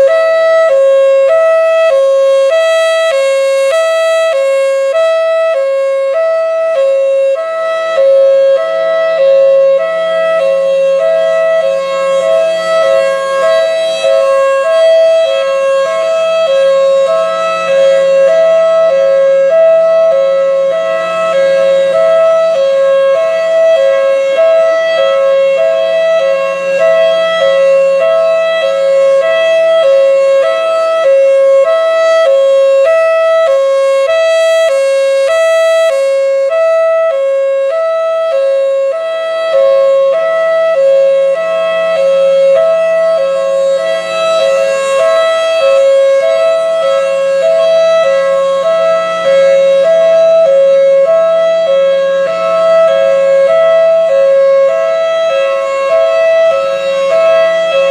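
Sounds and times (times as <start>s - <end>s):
two-tone warning siren: 0.0s - 57.9s.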